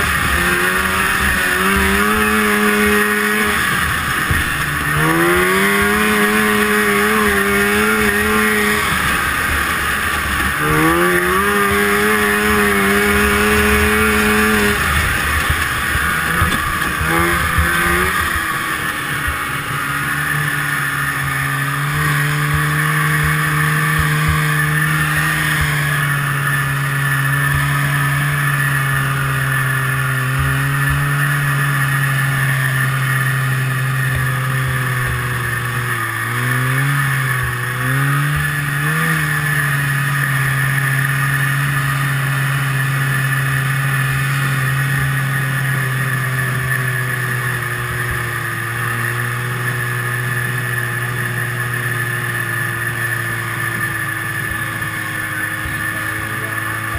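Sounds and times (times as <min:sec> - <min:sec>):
snowmobile engine running: 0:00.0 - 0:56.9.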